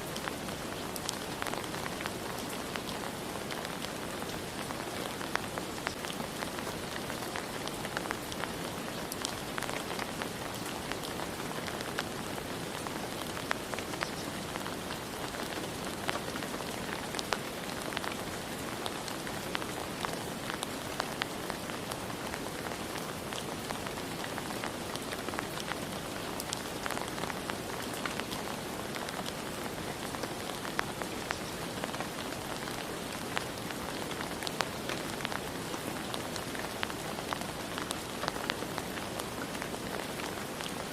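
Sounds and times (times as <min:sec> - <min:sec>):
rain drops hitting a surface: 0:00.0 - 0:40.9.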